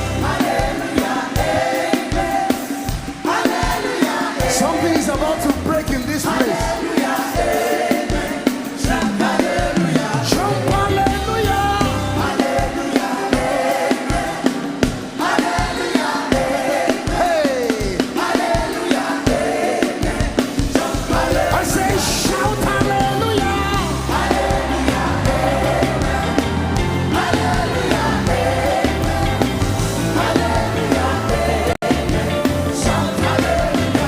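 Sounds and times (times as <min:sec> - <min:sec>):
band playing: 0:00.0 - 0:34.0
voices singing: 0:00.0 - 0:34.0.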